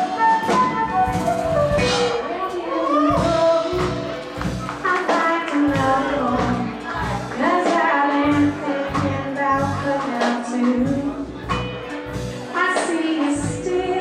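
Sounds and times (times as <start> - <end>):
woman singing lead: 0.0 - 11.8, 12.4 - 14.0
blues-rock band playing: 0.0 - 14.0
drums: 0.0 - 14.0.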